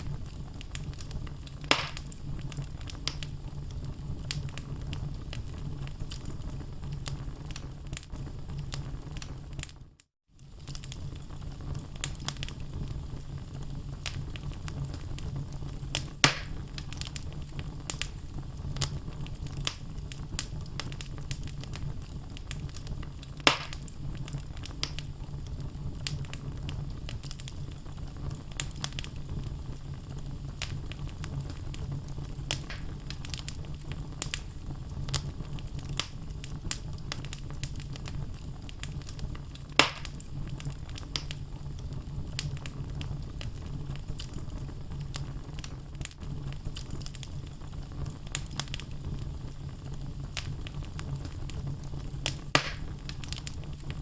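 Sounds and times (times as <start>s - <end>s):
fireplace flame rushing: 0.0s - 9.8s, 10.4s - 54.0s
logs crackling and popping: 0.0s - 54.0s.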